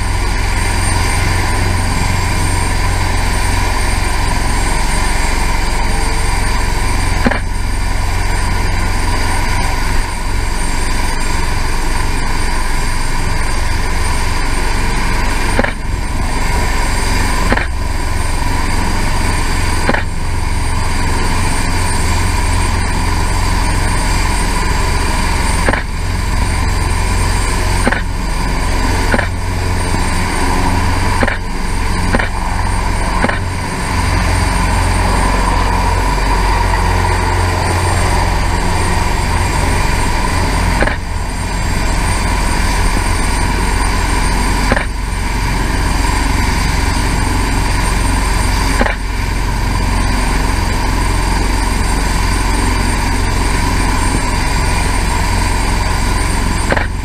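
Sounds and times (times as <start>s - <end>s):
helicopter turbine and rotor noise: 0.0s - 57.0s.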